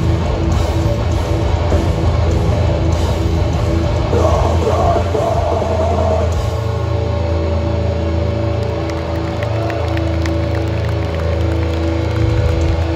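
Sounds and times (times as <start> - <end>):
hardcore band playing live: 0.0 - 12.9.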